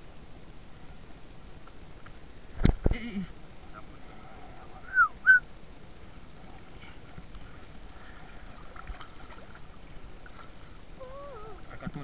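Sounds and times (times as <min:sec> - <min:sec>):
water around a boat: 0:00.0 - 0:12.0.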